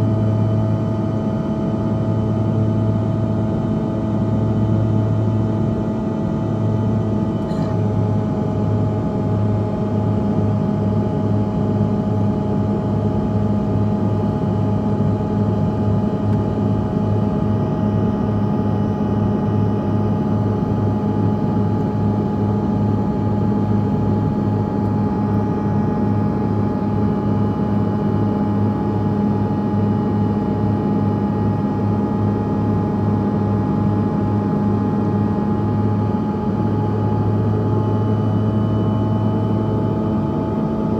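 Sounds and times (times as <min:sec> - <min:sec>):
jet engines humming in cabin: 0:00.0 - 0:40.9.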